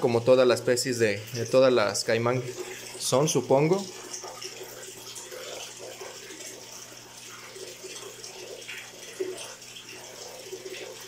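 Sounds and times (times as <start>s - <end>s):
water trickling: 0.0s - 11.0s
water splashes and drips: 0.6s - 11.0s.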